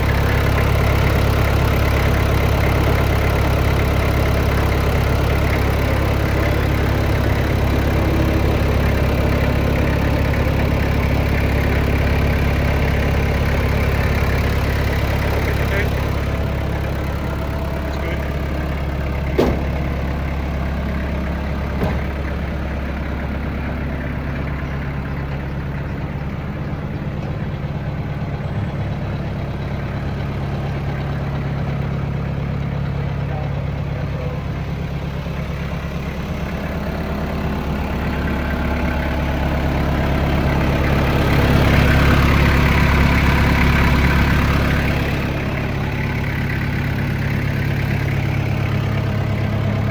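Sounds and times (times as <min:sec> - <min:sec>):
diesel tractor engine idling: 0:00.0 - 0:49.9.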